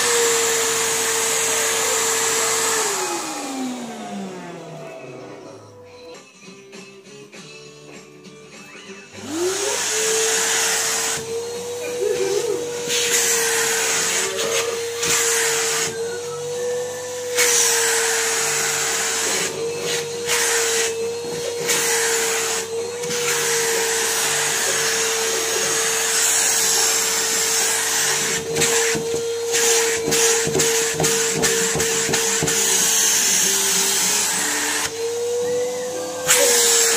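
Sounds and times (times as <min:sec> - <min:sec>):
vacuum nozzle on fabric: 0:00.0 - 0:04.9, 0:09.2 - 0:36.9
vacuum cleaner whine: 0:00.0 - 0:05.8, 0:09.1 - 0:36.9.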